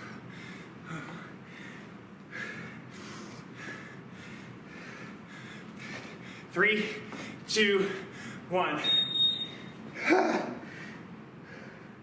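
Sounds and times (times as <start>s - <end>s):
man breathing hard: 0.0s - 8.5s, 10.0s - 12.0s.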